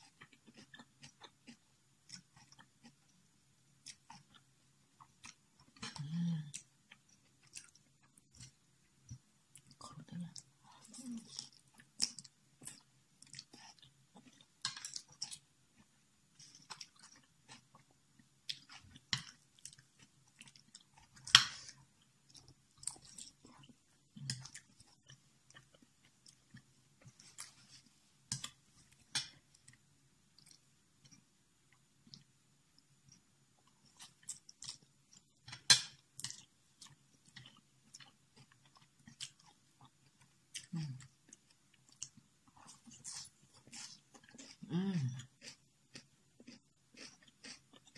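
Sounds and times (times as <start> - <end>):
person chewing noodles: 0.0 - 3.2, 3.8 - 9.8, 11.1 - 29.8, 33.0 - 35.5, 36.1 - 47.9
faint low hum: 0.0 - 47.9.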